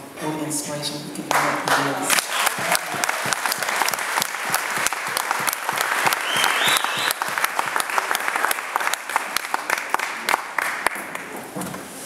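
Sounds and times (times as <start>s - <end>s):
audience applauding: 1.3s - 11.5s.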